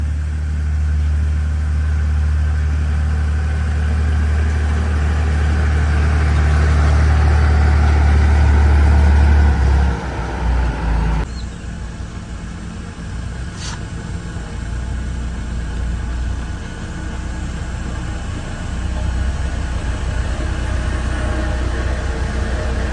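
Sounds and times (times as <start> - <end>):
diesel engine drone: 0.0 - 22.9
quieter engine running: 0.0 - 22.9.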